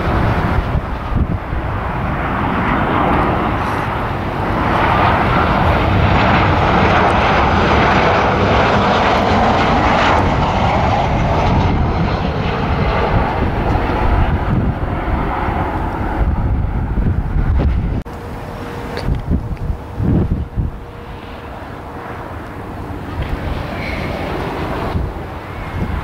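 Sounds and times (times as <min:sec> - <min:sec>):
jet engines passing overhead: 0:00.0 - 0:26.0.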